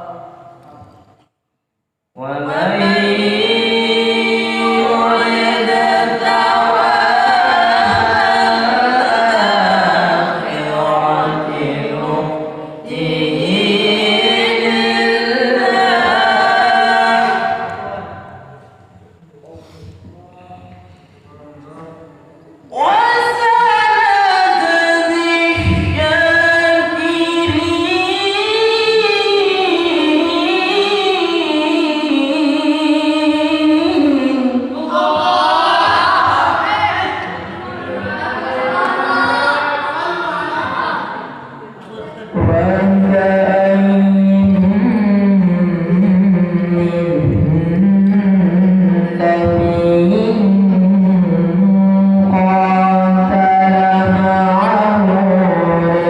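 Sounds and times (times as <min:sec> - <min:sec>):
person chanting melodically: 0:02.2 - 0:18.9, 0:22.7 - 0:56.0.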